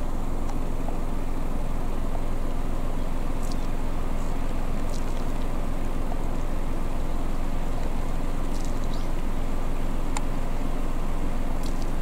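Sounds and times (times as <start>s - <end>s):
faint steady hum: 0.0s - 12.0s
low outdoor rumble: 0.0s - 12.0s.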